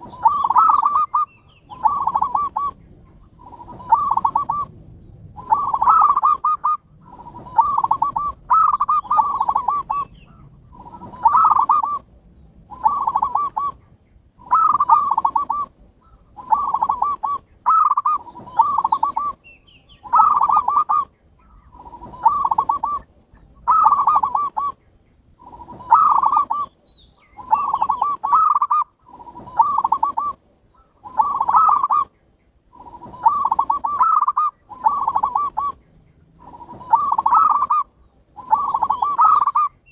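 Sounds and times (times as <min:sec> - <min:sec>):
dove cooing: 0:00.0 - 0:12.1, 0:12.7 - 0:19.4, 0:20.0 - 0:24.8, 0:25.4 - 0:39.9.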